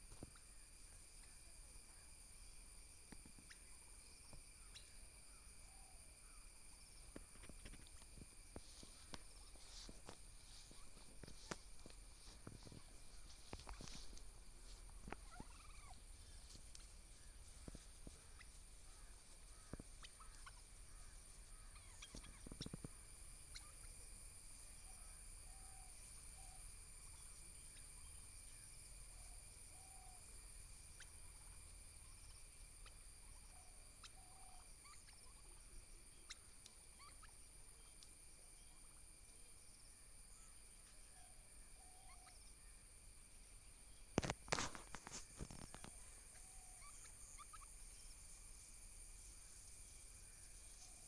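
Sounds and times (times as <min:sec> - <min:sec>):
turkeys calling faintly: 0:00.0 - 0:51.0.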